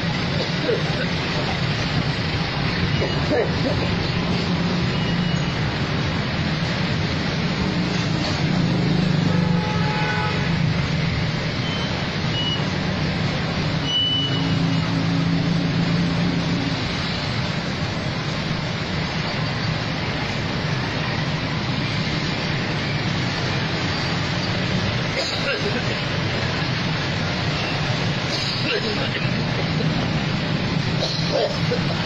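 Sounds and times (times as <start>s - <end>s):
vehicle engines running: 0.0s - 32.0s.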